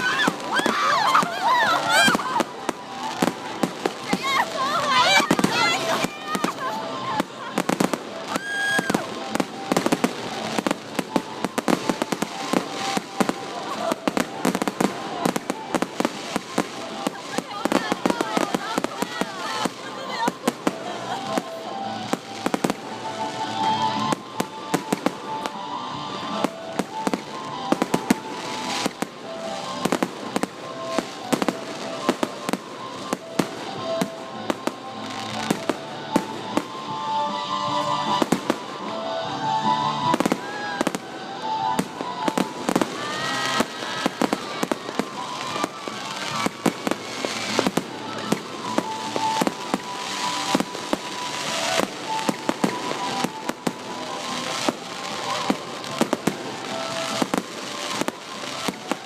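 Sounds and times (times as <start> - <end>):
fireworks banging: 0.0 - 59.0
music playing: 0.0 - 59.0.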